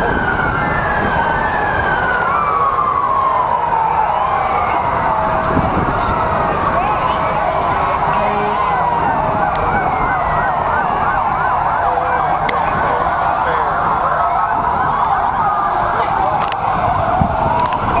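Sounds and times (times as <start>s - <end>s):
emergency vehicle sirens wailing: 0.0s - 18.0s.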